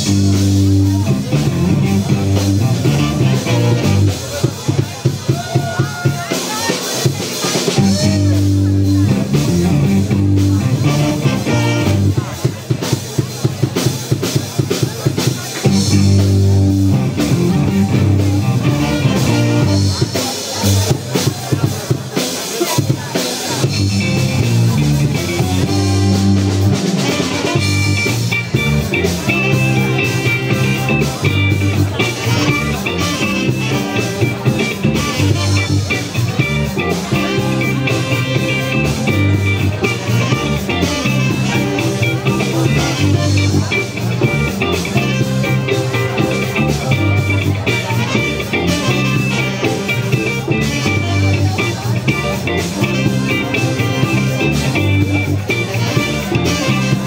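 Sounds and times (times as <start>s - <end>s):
horns playing: 0.0s - 4.5s, 7.7s - 12.4s, 15.7s - 20.2s, 23.7s - 57.0s
bass line: 0.0s - 13.2s, 15.4s - 21.6s, 23.5s - 57.0s
drum kit beat: 0.0s - 57.0s
electric guitar: 0.0s - 57.0s.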